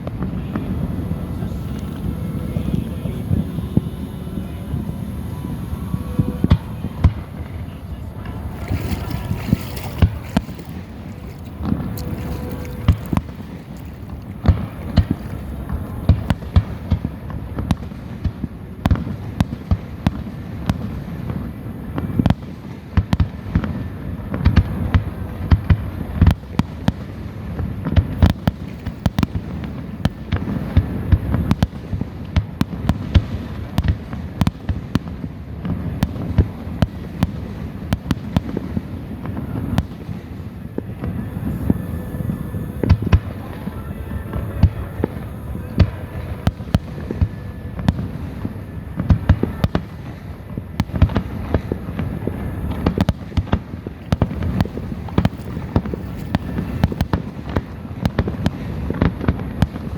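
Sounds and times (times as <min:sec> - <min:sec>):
distant explosions rumbling: 0:00.0 - 0:59.9
firework bangs and pops: 0:06.2 - 0:41.8, 0:42.8 - 0:59.9.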